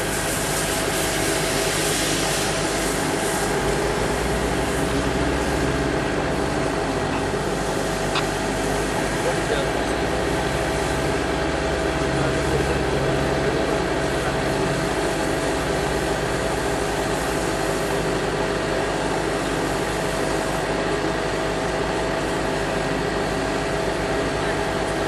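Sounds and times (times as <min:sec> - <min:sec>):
high-pressure water jets hissing: 0:00.0 - 0:25.0
steady engine running: 0:00.0 - 0:25.0.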